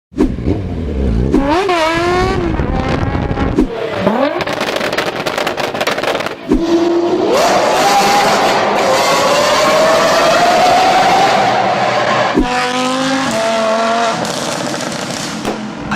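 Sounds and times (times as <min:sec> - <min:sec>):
engine accelerating hard: 0:00.2 - 0:15.9
engine revving: 0:00.2 - 0:15.9.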